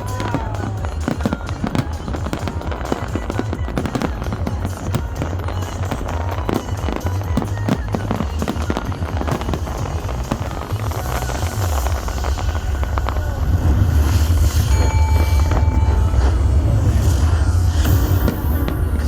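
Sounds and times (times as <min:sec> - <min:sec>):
fireworks bangs and crackles: 0:00.0 - 0:19.0
loud music with heavy bass: 0:00.0 - 0:19.0.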